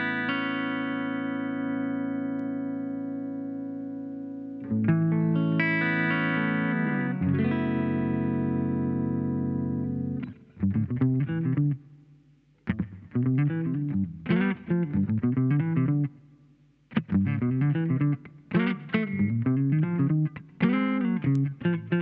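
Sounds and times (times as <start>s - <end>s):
electric guitar chords: 0.0s - 11.9s, 12.7s - 16.2s, 16.9s - 22.0s
picked guitar notes: 0.0s - 11.9s, 12.7s - 16.2s, 16.9s - 22.0s.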